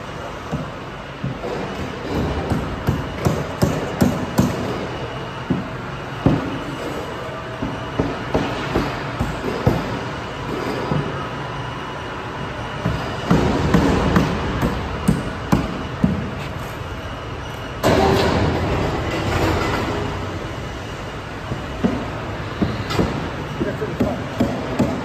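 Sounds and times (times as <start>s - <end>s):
factory machinery noise: 0.0s - 25.0s
faint machine whine: 0.0s - 25.0s.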